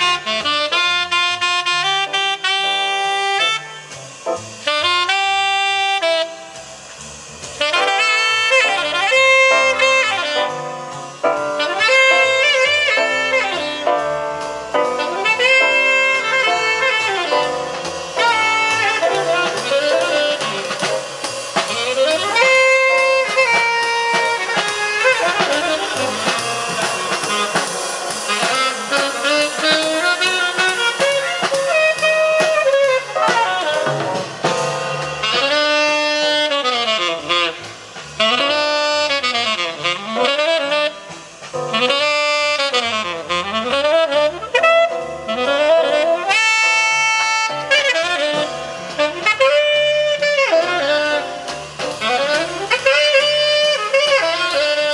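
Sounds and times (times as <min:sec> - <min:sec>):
jazz music with saxophone: 0:00.0 - 0:54.9.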